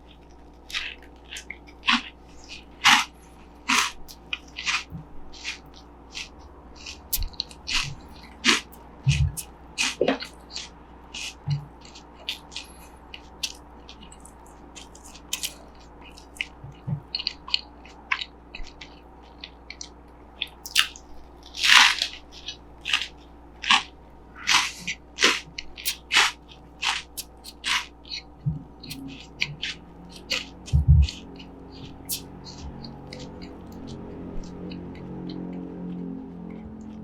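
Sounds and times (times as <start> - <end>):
person chewing crunchy snack: 0.0 - 37.0.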